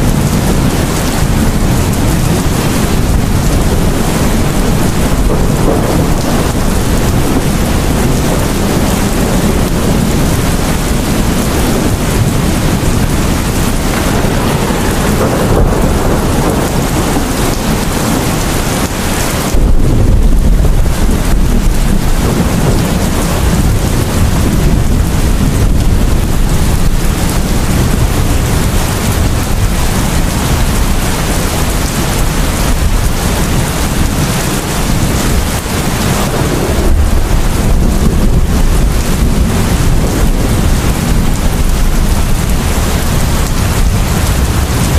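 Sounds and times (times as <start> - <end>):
heavy rain on a roof: 0.0 - 44.9
thunder rumble: 0.0 - 44.9.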